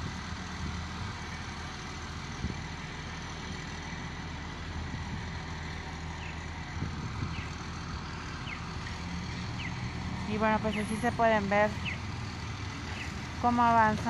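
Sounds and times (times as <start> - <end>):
street traffic hum: 0.0 - 14.0
vehicle engine idling: 0.0 - 14.0.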